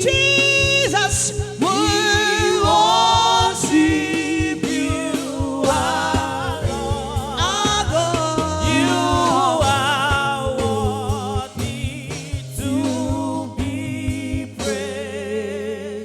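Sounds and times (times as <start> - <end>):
gospel singing with accompaniment: 0.0 - 16.0.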